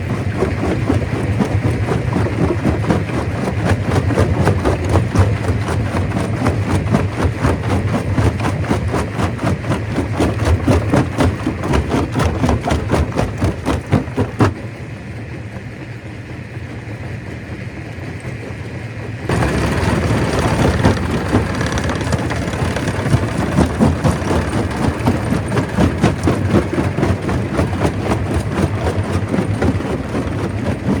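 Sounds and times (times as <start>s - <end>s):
machine running low: 0.0s - 31.0s.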